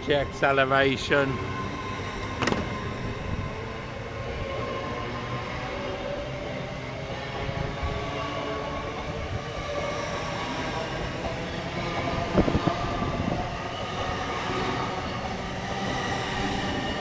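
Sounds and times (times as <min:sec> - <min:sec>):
train motor hum: 0:00.0 - 0:17.0
train wheels rumbling: 0:00.0 - 0:17.0.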